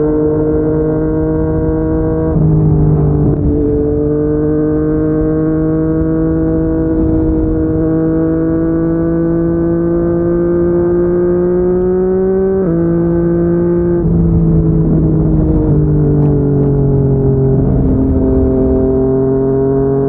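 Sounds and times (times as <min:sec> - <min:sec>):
motorcycle engine revving: 0:00.0 - 0:20.0
wind and road noise: 0:00.0 - 0:20.0.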